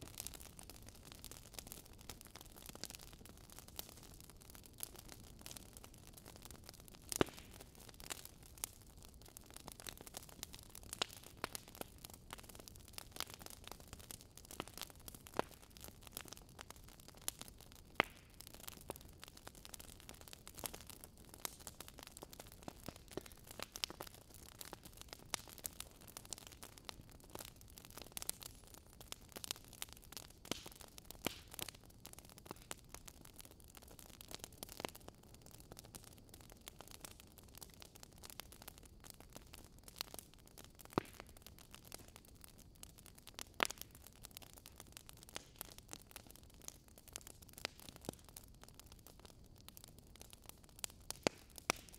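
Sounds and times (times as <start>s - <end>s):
fire crackling in a fireplace: 0.0s - 51.9s.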